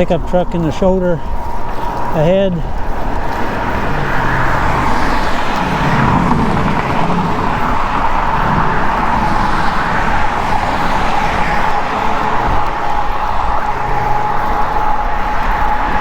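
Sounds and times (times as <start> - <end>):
highway traffic passing: 0.0 - 16.0
rushing wind: 0.0 - 16.0.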